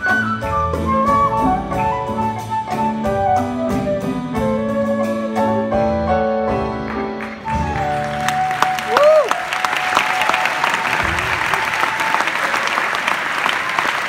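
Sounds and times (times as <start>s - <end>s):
rumba music: 0.0s - 11.9s.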